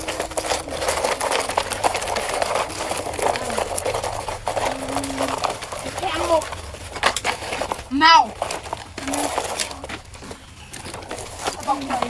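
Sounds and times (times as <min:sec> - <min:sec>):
crackling and scraping: 0:00.0 - 0:12.0.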